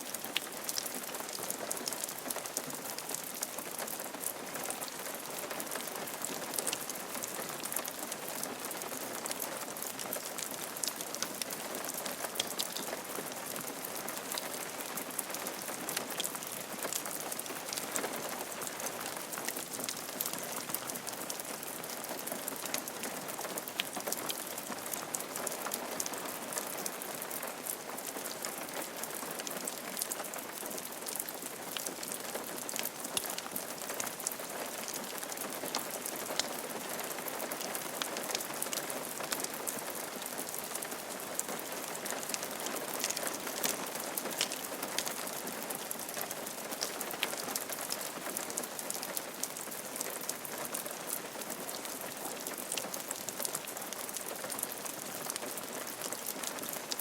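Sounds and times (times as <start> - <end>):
rain on a roof: 0.0 - 57.0
ticks of raindrops: 0.0 - 57.0.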